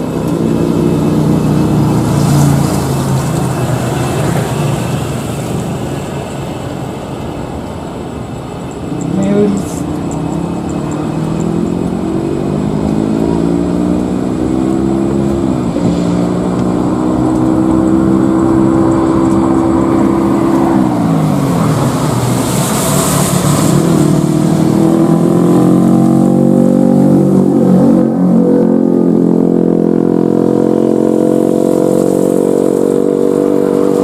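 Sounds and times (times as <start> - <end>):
loud engine drone: 0.0 - 34.0.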